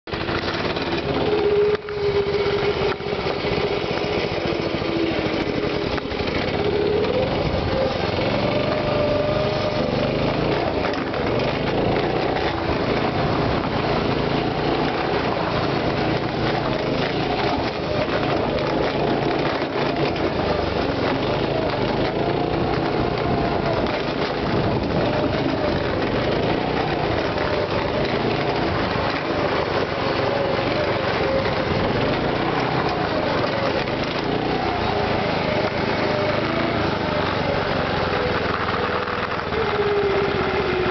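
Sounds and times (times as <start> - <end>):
go-kart engine revving: 0.0 - 40.9
steady rushing noise: 0.0 - 40.9.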